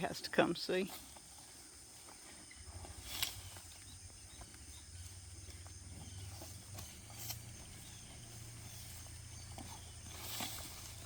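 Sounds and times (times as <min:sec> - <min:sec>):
rustling stalks: 0:00.0 - 0:11.0
cows crunching stalks: 0:00.8 - 0:11.0.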